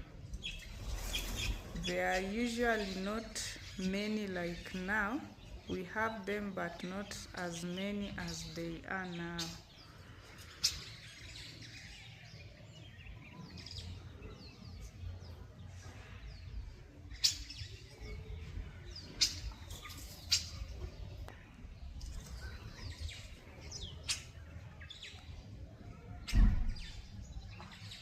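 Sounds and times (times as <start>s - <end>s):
flock of birds chirping: 0.0s - 28.0s.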